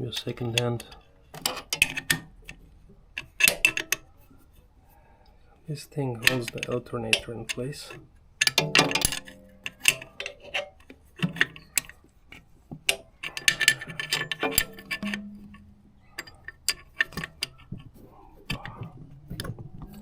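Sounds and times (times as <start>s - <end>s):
wrench and metal parts clinking: 0.1s - 2.6s, 3.2s - 4.1s, 6.2s - 20.0s.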